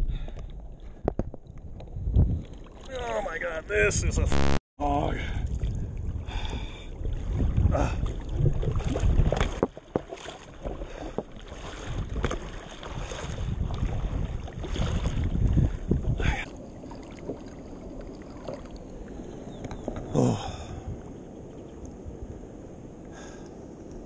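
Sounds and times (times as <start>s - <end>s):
wind buffeting microphone: 0.0s - 2.6s, 5.3s - 9.7s, 10.8s - 23.8s
water splashing and sloshing: 0.0s - 3.7s, 5.4s - 21.2s.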